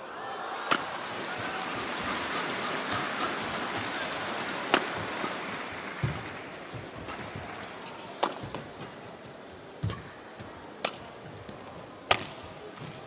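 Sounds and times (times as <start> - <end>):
arena background noise: 0.0 - 13.0
rackets hitting shuttlecock: 0.6 - 13.0.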